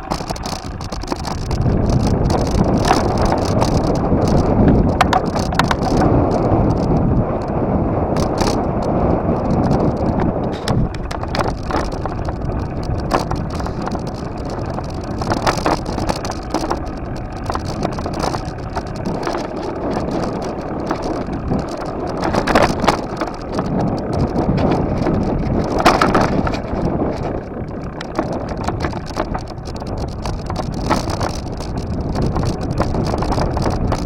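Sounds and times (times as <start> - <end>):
bike rattling clicks and knocks: 0.0 - 34.0
wind on microphone: 0.0 - 34.0.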